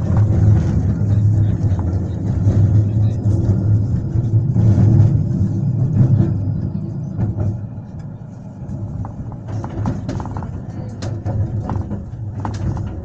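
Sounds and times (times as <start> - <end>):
tram rumble and hum: 0.0 - 13.0.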